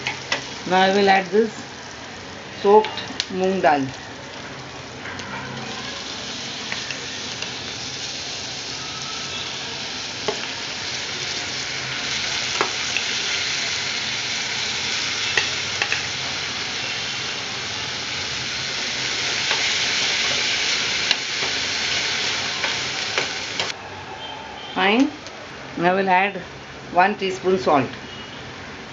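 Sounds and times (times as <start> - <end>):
lentils sizzling in oil: 0.0 - 23.8.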